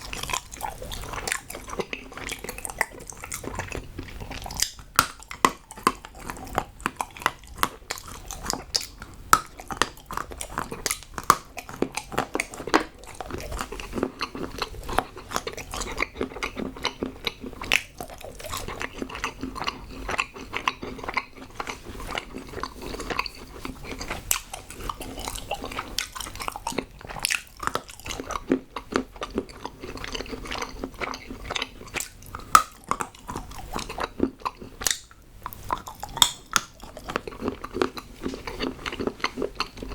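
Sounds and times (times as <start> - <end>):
chocolate snapping and crunching: 0.0 - 39.9.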